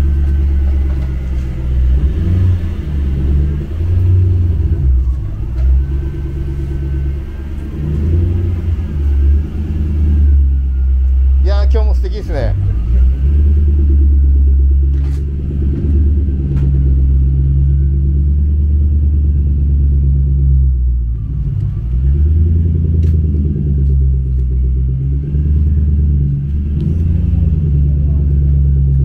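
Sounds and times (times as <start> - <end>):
car engine rumbling at low revs: 0.0 - 29.0.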